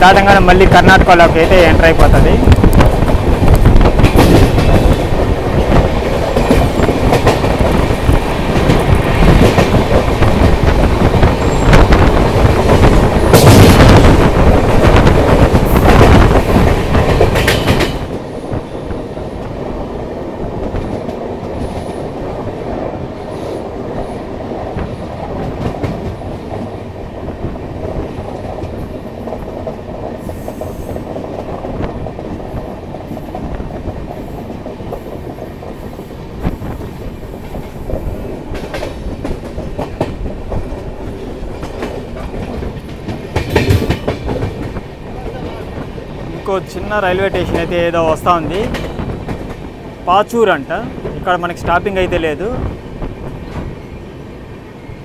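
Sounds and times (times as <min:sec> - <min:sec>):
train wheels clattering over rails: 0:01.3 - 0:55.0.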